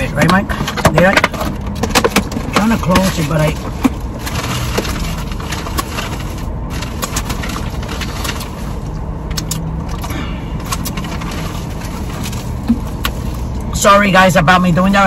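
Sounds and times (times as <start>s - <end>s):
car interior engine hum: 0.0s - 15.0s.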